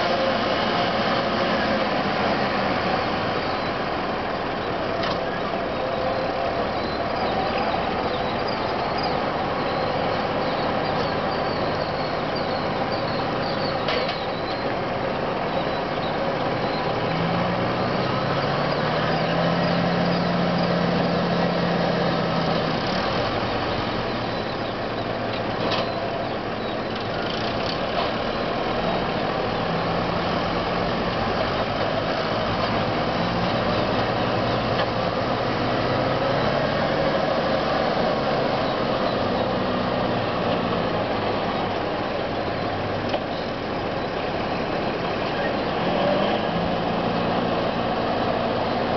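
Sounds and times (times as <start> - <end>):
tractor and harvester drone: 0.0 - 48.9.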